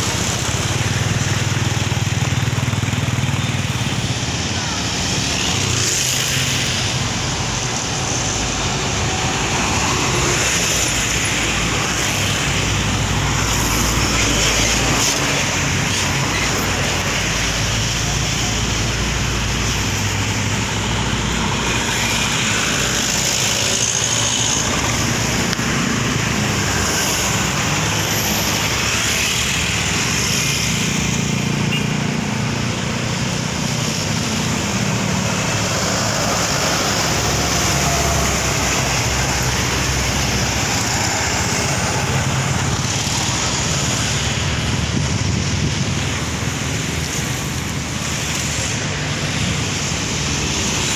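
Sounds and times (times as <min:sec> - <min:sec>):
road noise: 0:00.0 - 0:50.9.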